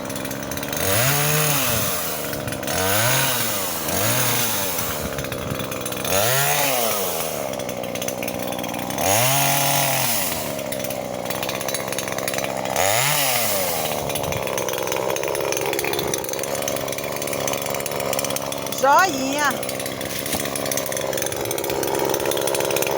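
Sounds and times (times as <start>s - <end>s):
chainsaw engine revving: 0.0s - 22.9s.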